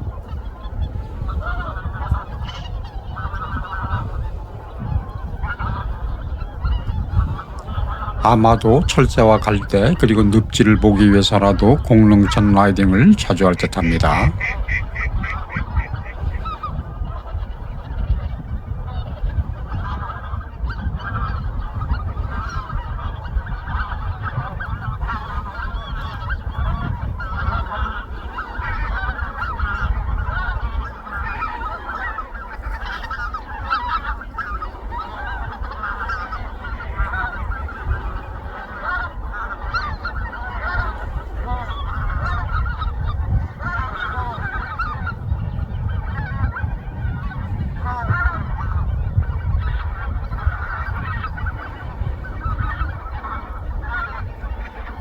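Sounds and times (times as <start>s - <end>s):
geese honking: 0.1s - 55.0s.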